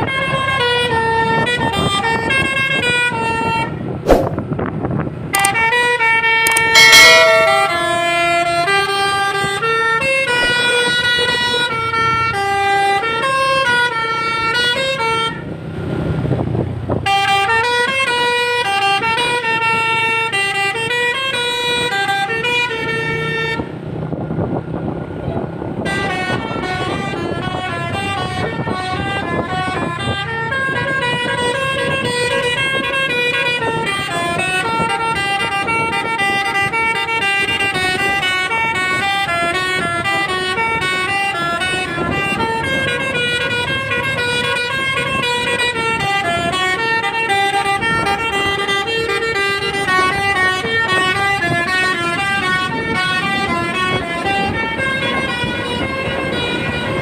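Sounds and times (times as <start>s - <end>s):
bus horn playing a tune: 0.0s - 3.9s, 5.4s - 15.5s, 17.0s - 23.8s, 25.8s - 57.0s
bus engine and road noise: 0.0s - 57.0s.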